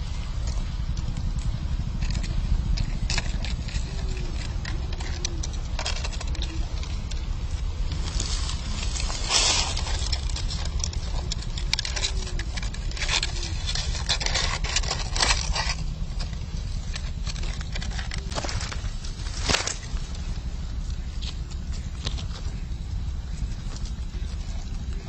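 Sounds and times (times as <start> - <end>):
dry leaves rustling: 0.0 - 25.0
wind rumble on microphone: 0.0 - 25.0.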